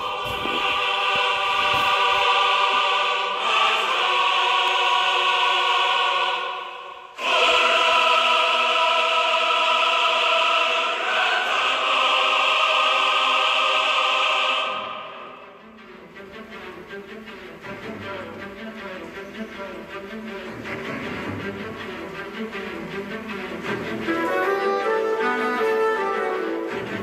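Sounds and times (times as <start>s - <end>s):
choral music: 0.0s - 27.0s.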